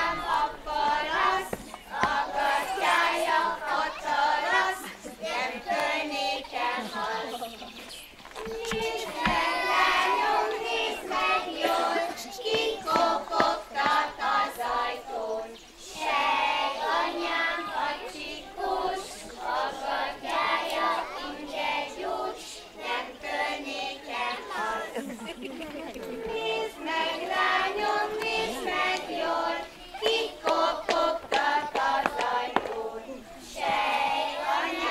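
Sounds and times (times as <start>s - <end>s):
children singing together: 0.0s - 7.8s, 8.4s - 34.9s.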